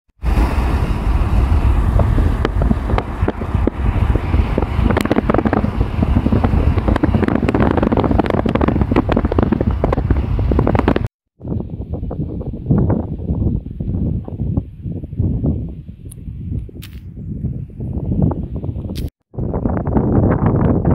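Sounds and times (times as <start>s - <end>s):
wind buffeting microphone: 0.2s - 20.9s.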